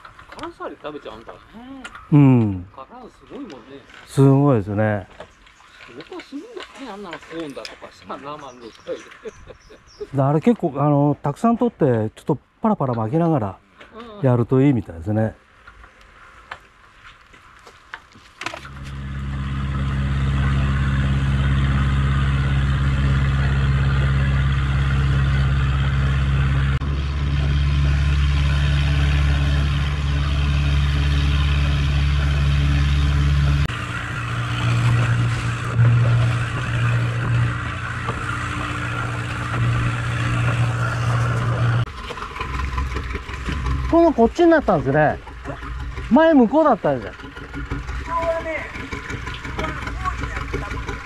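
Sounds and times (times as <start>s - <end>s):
boat engine humming: 0.0s - 51.0s
water noise: 0.0s - 51.0s.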